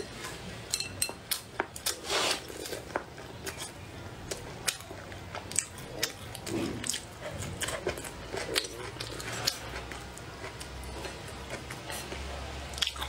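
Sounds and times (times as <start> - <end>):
chewing: 1.3 - 13.0.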